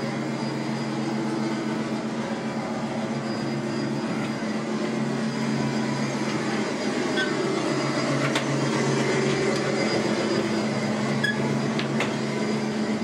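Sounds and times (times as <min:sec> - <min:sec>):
ventilation machinery hum: 0:00.0 - 0:13.0.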